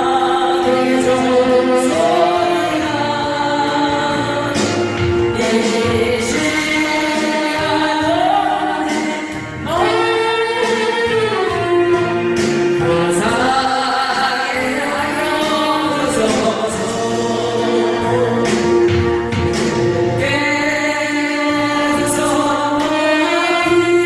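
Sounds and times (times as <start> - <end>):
voices singing a hymn: 0.0 - 24.0.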